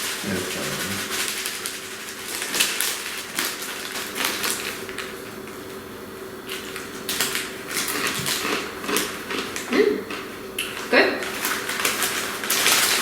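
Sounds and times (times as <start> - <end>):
crunching dry noodles: 0.0 - 5.7, 6.5 - 13.0.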